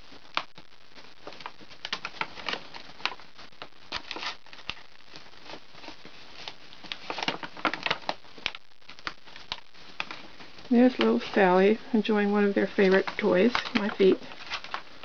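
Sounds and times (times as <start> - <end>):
paper bag crinkling: 1.2 - 15.0.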